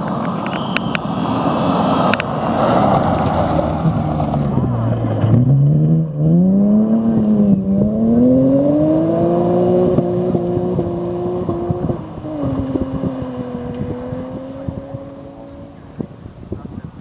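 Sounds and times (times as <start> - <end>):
rally car accelerating on gravel: 0.0 - 16.1.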